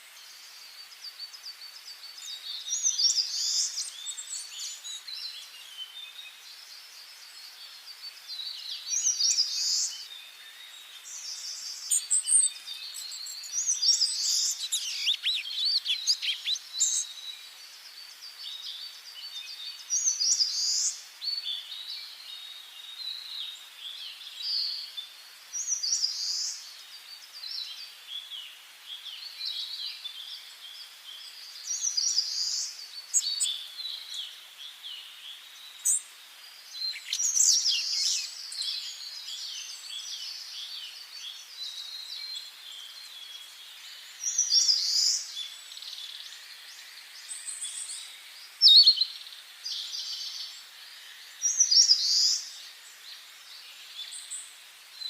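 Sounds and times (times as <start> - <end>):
faint steady hiss: 0.0 - 55.0
songbirds singing: 0.0 - 55.0.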